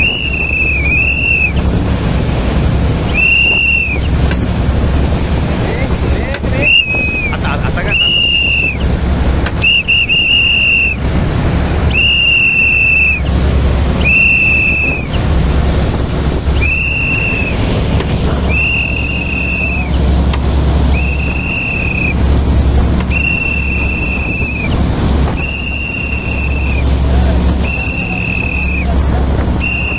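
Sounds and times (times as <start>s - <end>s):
boat engine rumble: 0.0s - 29.9s
wind and water rushing: 0.0s - 29.9s.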